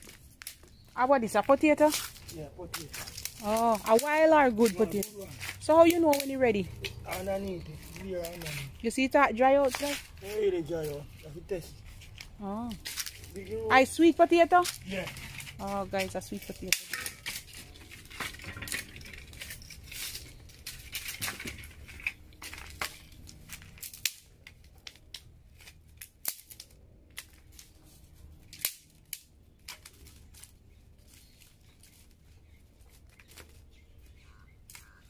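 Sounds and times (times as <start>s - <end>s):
dry sticks snapping and cracking: 0.0s - 35.0s.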